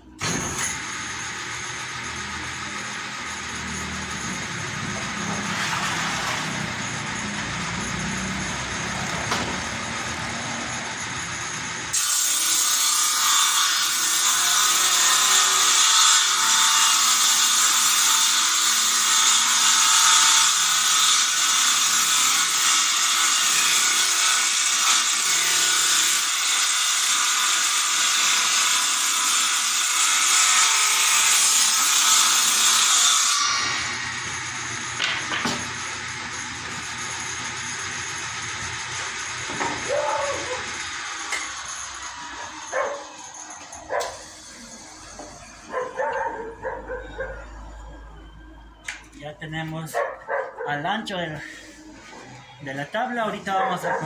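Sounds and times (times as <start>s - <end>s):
table saw cutting wood: 0.0s - 49.0s, 49.9s - 54.0s
table saw spinning: 0.0s - 49.0s, 53.3s - 54.0s.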